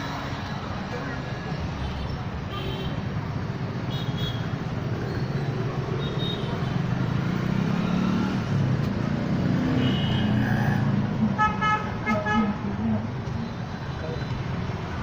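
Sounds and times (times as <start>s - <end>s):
road traffic engines: 0.0s - 15.0s.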